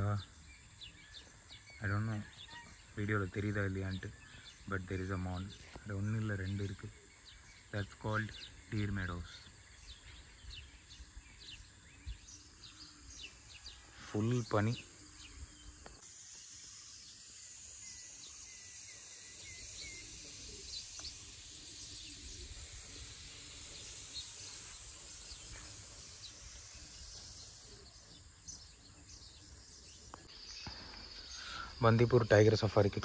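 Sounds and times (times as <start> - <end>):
bird chirps: 0.0 - 33.0
steady high hiss: 0.0 - 33.0.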